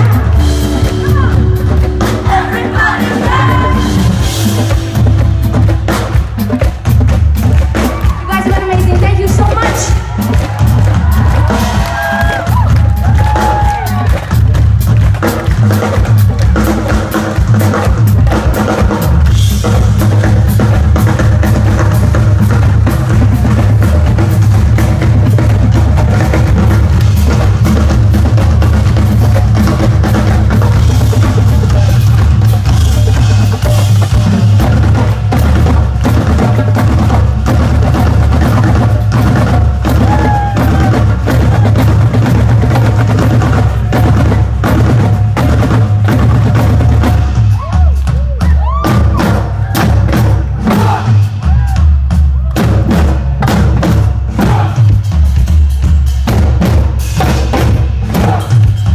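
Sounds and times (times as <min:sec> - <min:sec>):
live band music: 0:00.0 - 0:58.9.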